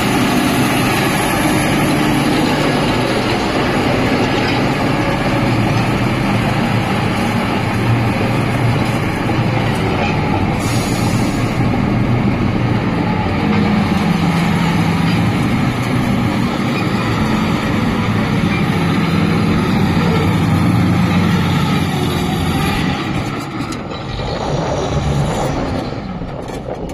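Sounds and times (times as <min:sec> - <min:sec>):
bulldozer diesel engine running: 0:00.0 - 0:26.9.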